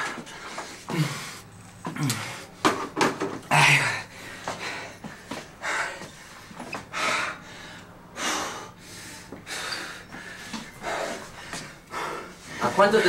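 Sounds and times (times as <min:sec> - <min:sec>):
man breathing hard: 0:00.0 - 0:02.6, 0:03.5 - 0:13.0.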